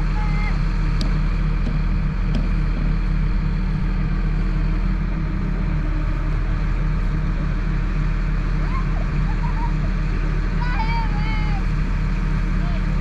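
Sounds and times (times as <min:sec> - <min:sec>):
crane engine running: 0:00.0 - 0:13.0.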